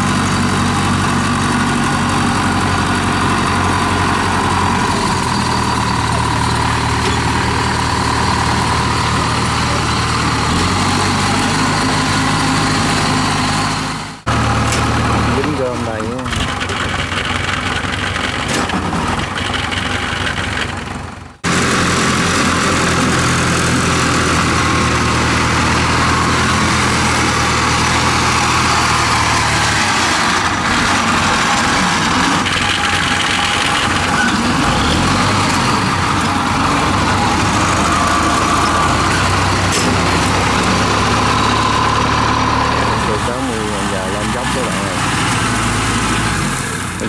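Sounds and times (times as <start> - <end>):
tracked cart engine running: 0.0 - 47.0.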